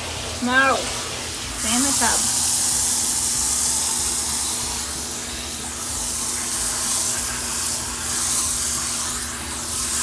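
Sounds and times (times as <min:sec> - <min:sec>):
shower spray hissing on fur: 0:00.0 - 0:10.0.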